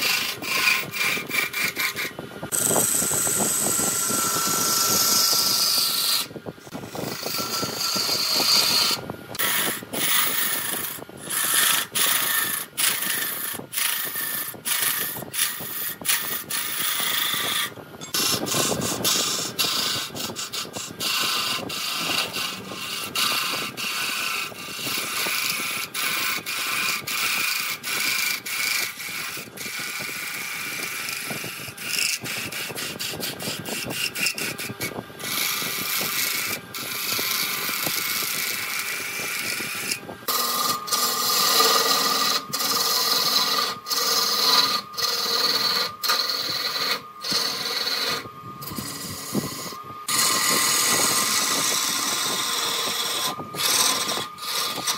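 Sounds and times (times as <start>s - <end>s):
steady whine: 0.0s - 54.9s
tool cutting wood on lathe: 0.0s - 54.9s.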